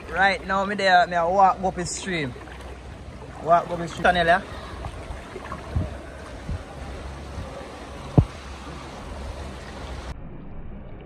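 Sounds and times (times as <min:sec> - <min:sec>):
water rushing over rocks: 0:00.0 - 0:10.1.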